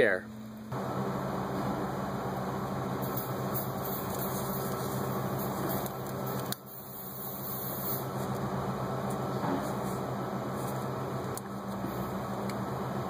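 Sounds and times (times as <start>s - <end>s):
low mechanical hum with hiss: 0.0s - 13.0s.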